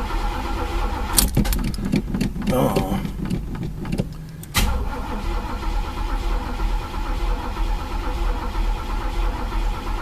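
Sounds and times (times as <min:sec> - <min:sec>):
engine cranking by starter: 0:00.0 - 0:10.0.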